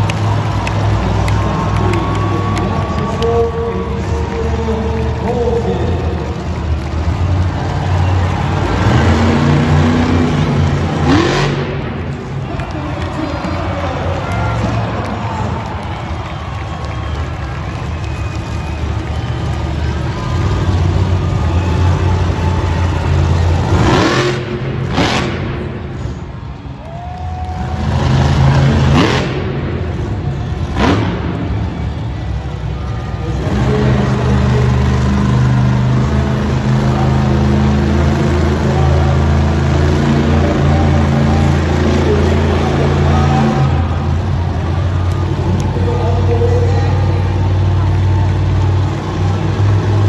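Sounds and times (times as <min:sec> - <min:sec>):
truck engine revving hard: 0:00.0 - 0:26.9, 0:27.5 - 0:50.0.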